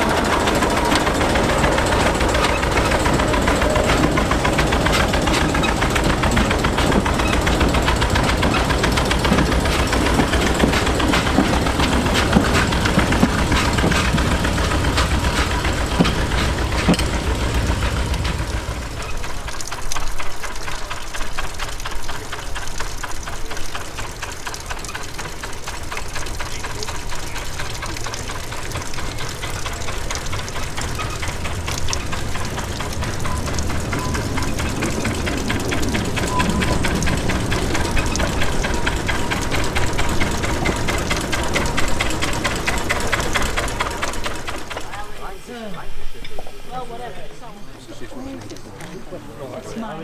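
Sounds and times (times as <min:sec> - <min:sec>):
small locomotive engine beating: 0:00.0 - 0:50.0.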